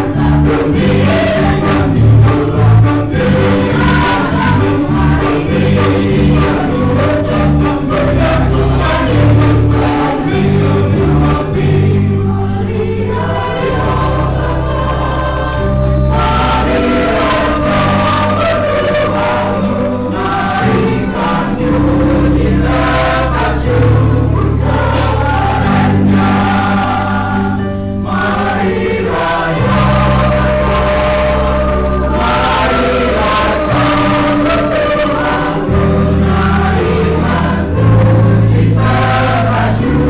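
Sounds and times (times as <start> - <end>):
choir singing a hymn: 0.0 - 40.0
sustained low accompaniment: 0.0 - 40.0.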